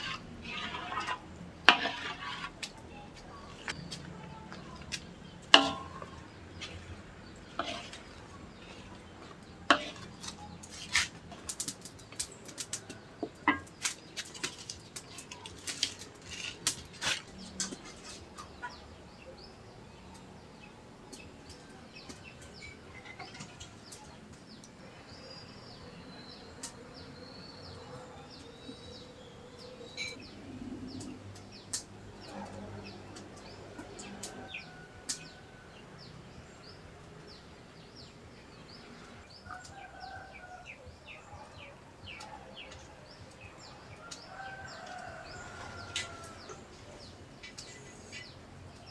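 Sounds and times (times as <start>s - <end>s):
birds chirping: 0.0s - 48.9s.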